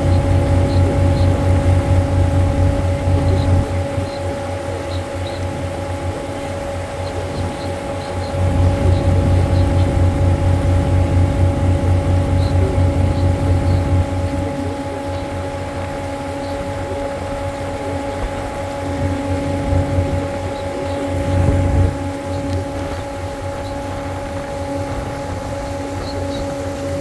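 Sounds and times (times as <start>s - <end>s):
boat engine rumble: 0.0s - 27.0s
steady hum: 0.0s - 27.0s.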